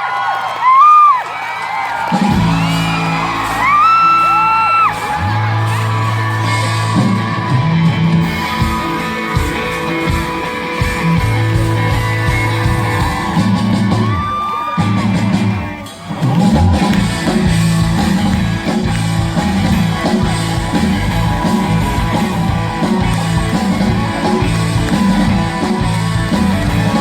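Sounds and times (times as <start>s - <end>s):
people whooping: 0.0s - 27.0s
pop-rock band playing live: 2.0s - 27.0s.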